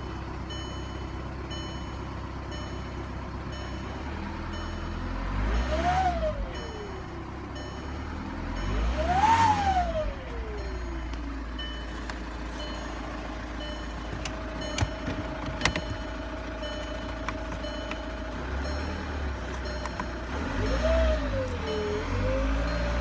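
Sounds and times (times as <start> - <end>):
diesel engine revving with whine: 0.0 - 23.0.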